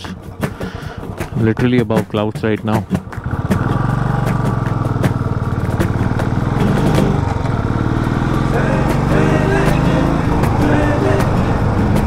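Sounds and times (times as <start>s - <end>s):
motorcycle engine pulsing exhaust: 0.0s - 12.0s.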